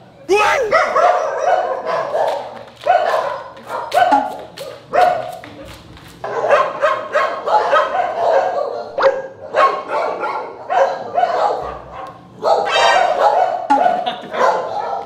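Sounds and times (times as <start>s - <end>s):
dogs barking: 0.3s - 5.6s, 6.2s - 15.0s.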